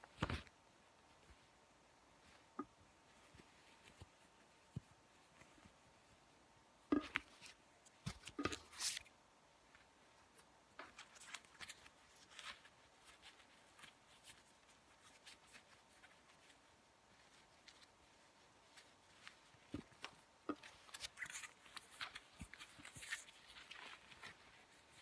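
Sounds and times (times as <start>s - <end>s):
soft fabric rustling: 0.0s - 25.0s.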